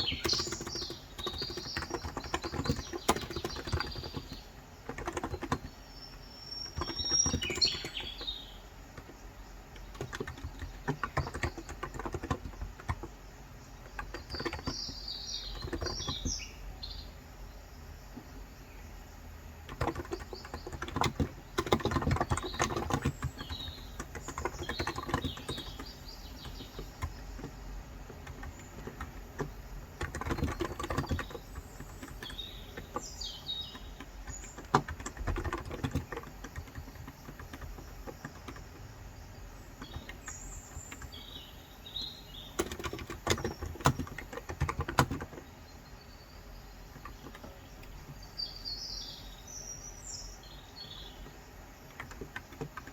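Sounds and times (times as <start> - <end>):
typing on a keyboard: 0.0 - 16.5, 19.6 - 41.4, 42.4 - 45.5, 46.9 - 48.2, 50.8 - 52.9
birds chirping: 0.0 - 52.9.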